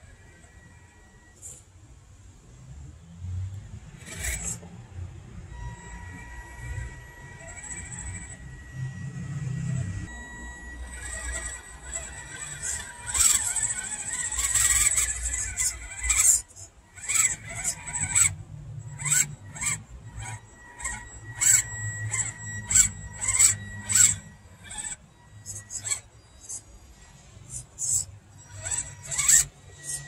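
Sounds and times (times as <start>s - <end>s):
electric motor whining in bursts: 0.0s - 1.6s, 3.8s - 30.0s
faint steady high whine: 0.0s - 30.0s.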